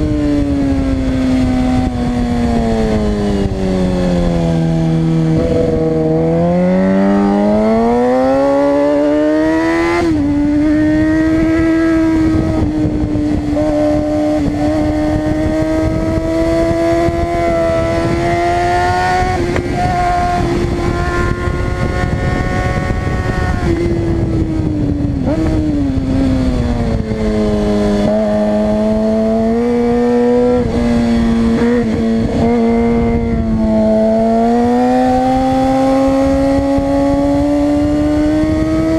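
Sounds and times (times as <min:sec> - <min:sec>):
motorcycle engine at high revs: 0:00.0 - 0:38.9
wind rush: 0:00.0 - 0:38.9.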